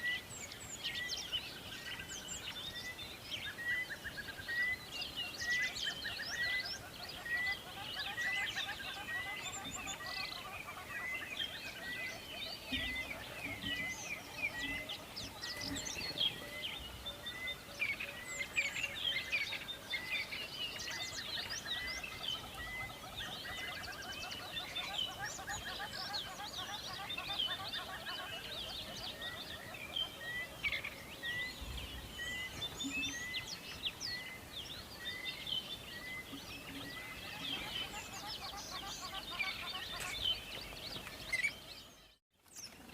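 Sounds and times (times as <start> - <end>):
birds chirping and calling: 0.0 - 42.9.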